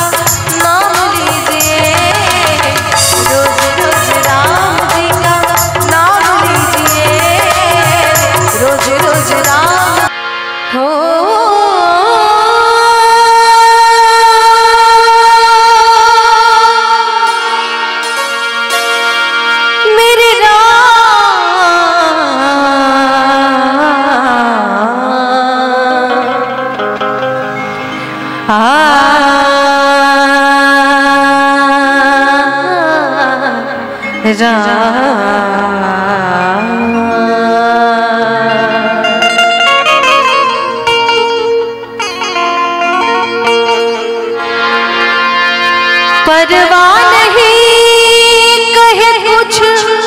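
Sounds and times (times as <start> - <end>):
woman singing: 0.0 - 18.0, 19.8 - 26.8, 28.4 - 41.5, 46.1 - 50.0
harmonium: 0.0 - 50.0.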